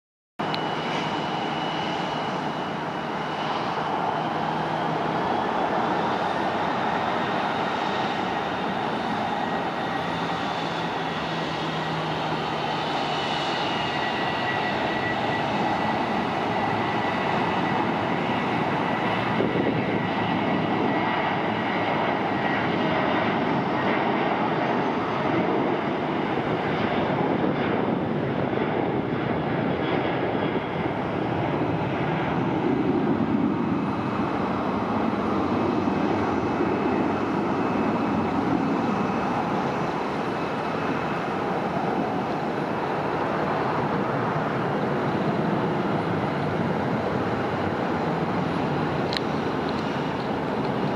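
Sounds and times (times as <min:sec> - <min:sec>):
jet engines roaring: 0:00.4 - 0:50.9.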